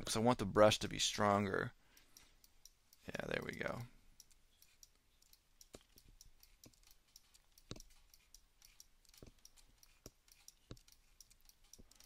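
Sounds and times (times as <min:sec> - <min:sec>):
mouse and keyboard clicking: 0:02.1 - 0:12.0.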